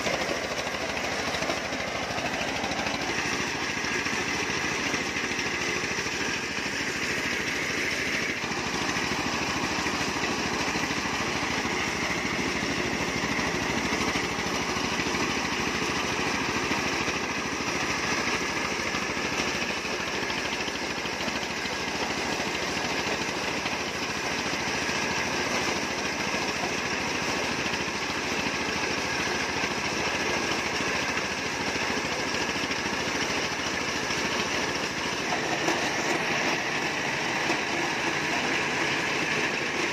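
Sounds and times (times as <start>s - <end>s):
engine-driven corn sheller running: 0.0s - 39.9s.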